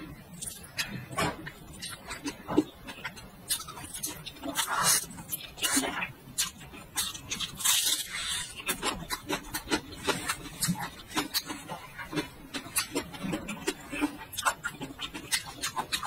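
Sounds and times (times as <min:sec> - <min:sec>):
crunching garlic being chewed: 0:00.4 - 0:16.0.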